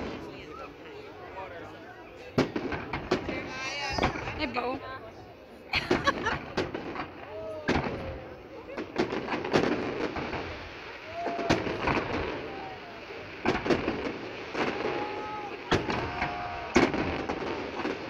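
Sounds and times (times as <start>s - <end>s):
fireworks bursting: 2.2s - 4.8s, 5.8s - 18.0s.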